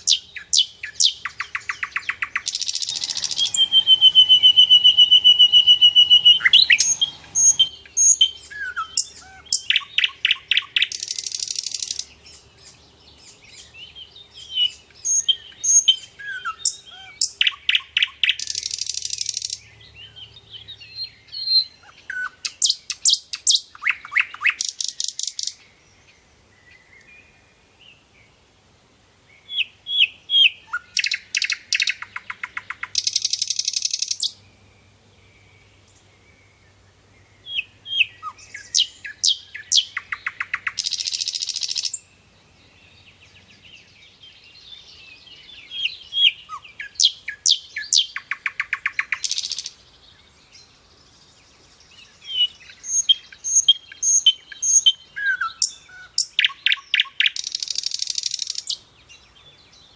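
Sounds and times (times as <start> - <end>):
nightingale singing: 0.0 - 28.4, 29.3 - 59.9.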